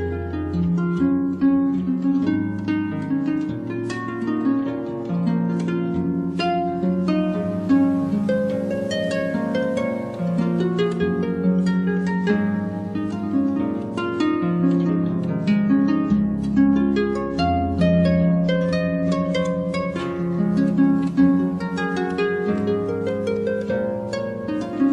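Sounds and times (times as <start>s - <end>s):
harp plucking notes: 0.0s - 24.9s.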